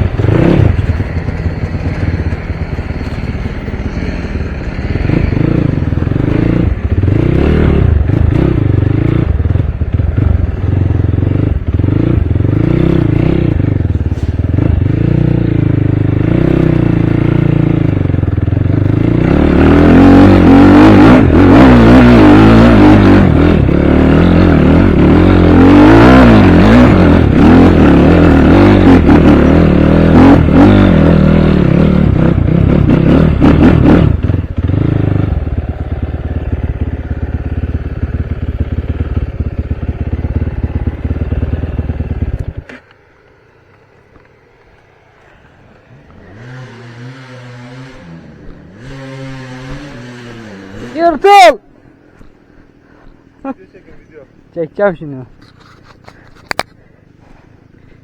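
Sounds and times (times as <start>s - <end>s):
dirt bike engine revving: 0.0s - 42.8s, 45.9s - 51.8s.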